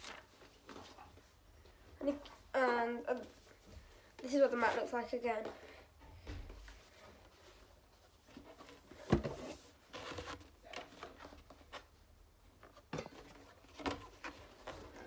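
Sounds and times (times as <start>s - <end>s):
paper and cardboard rustling: 0.0s - 5.8s, 6.6s - 15.0s.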